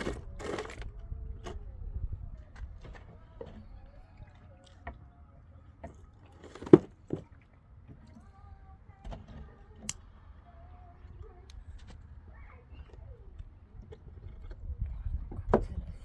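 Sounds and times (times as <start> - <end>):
faint distant voices: 0.0 - 16.0.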